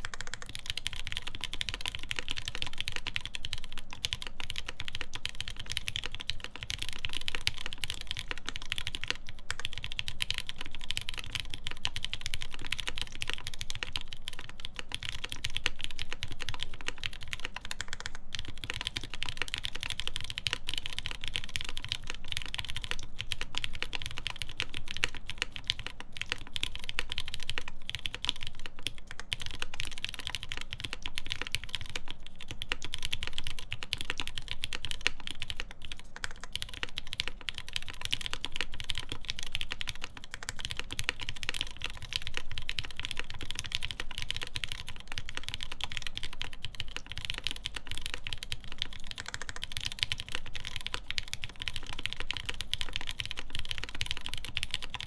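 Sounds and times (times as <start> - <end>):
mechanical keyboard typing: 0.0 - 55.0.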